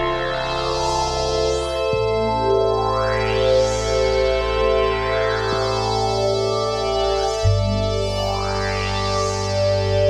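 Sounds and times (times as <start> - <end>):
synthesizer sustained chord: 0.0 - 10.0.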